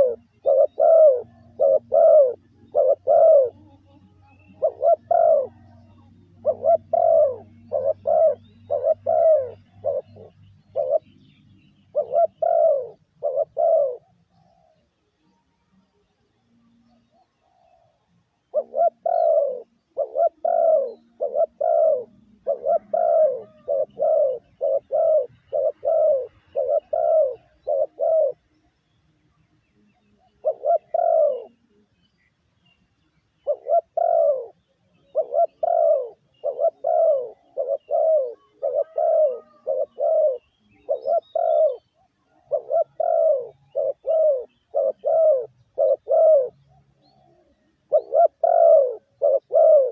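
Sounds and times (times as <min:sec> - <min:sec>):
dove cooing: 0:00.0 - 0:15.0, 0:16.8 - 0:28.6, 0:29.9 - 0:31.8, 0:33.4 - 0:49.9.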